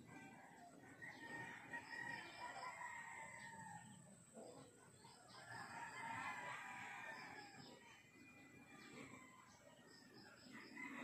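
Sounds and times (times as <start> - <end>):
faint rooster crowing: 0.0 - 11.0.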